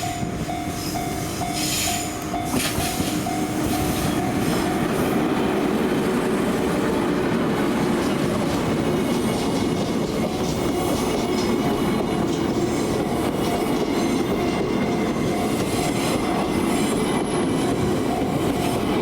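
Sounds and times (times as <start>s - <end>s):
level crossing warning bell: 0.0s - 6.2s, 10.0s - 19.0s
train wheels rumbling on rails: 0.0s - 19.0s.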